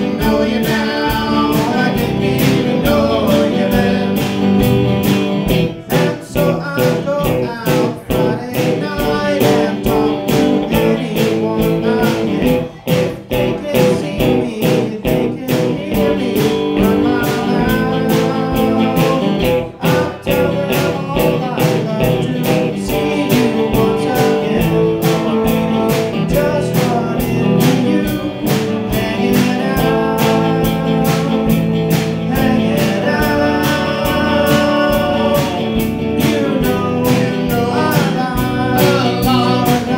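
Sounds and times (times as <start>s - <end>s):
live rock band playing: 0.0s - 39.9s
person singing lead vocal: 0.0s - 39.9s.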